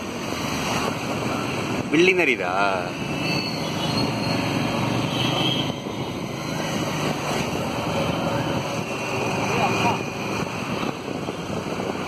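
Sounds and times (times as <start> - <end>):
motorcycles passing: 0.0 - 12.0
road traffic noise: 0.0 - 12.0.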